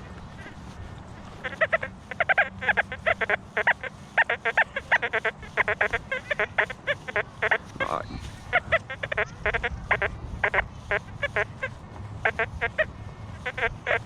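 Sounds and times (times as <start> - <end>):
metal detector beeping: 1.4 - 14.0.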